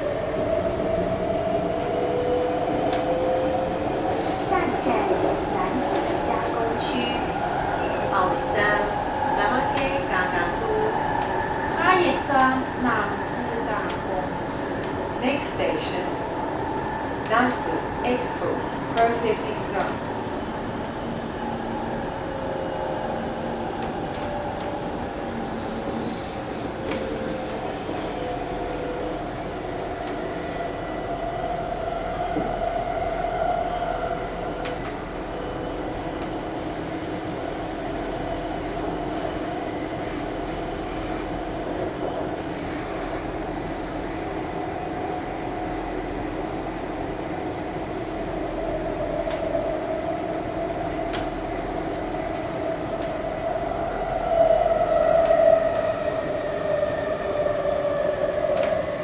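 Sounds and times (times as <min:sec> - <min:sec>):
metro train rumbling: 0:00.0 - 0:59.0.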